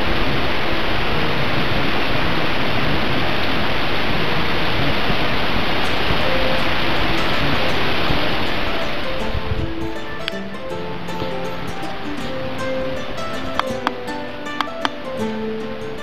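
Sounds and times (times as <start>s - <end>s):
steady rushing noise: 0.0s - 14.5s.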